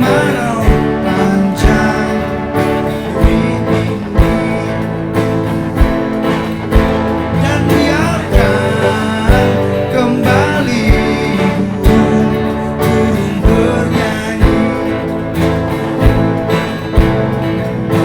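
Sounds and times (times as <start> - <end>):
guitar playing: 0.0 - 18.0
low drum beat: 0.0 - 18.0.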